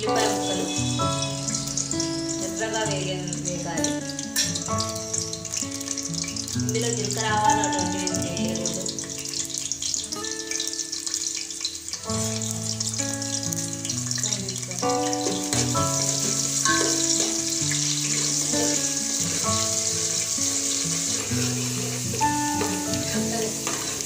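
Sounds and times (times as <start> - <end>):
keyboard music with held notes: 0.0 - 24.0
onions sizzling in oil: 0.0 - 24.0.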